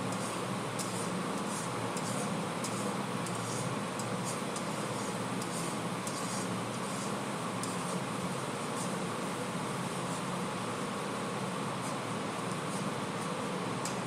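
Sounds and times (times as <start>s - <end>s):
fan-like hum: 0.0s - 14.0s.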